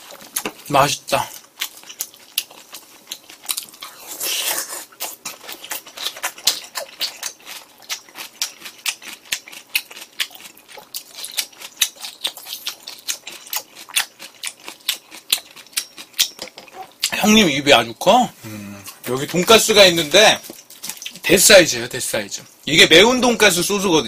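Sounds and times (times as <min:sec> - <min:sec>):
person chewing: 0:00.0 - 0:17.2, 0:18.4 - 0:19.8, 0:20.4 - 0:21.3.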